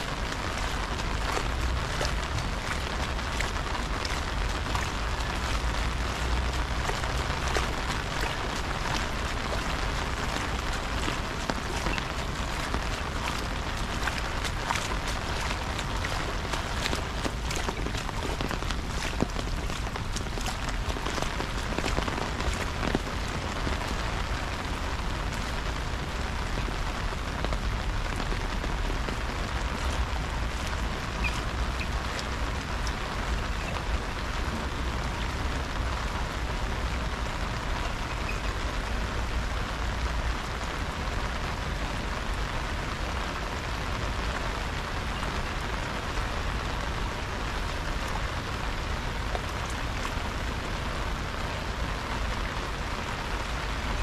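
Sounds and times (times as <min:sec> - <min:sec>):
water drips: 0:00.0 - 0:42.4, 0:47.1 - 0:52.4
steady rain: 0:00.0 - 0:54.0.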